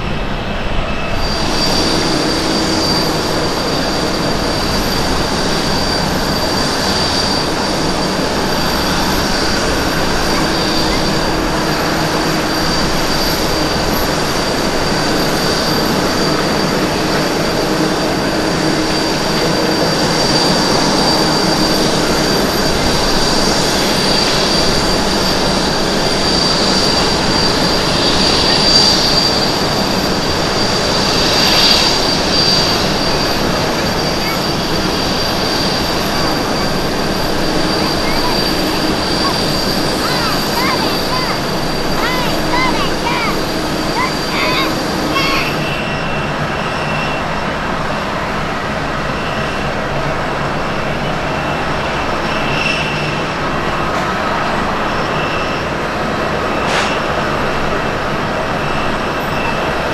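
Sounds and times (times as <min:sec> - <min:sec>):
jet engines roaring with whine: 0:00.0 - 0:59.9.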